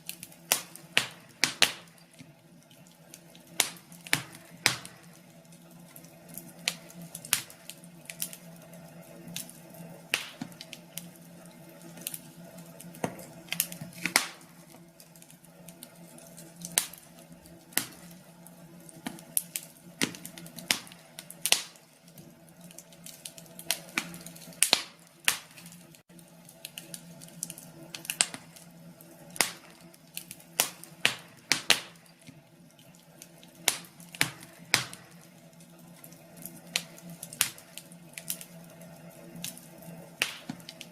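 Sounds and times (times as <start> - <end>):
faint steady hum: 0.0 - 40.9
wood fire crackling: 0.0 - 40.9.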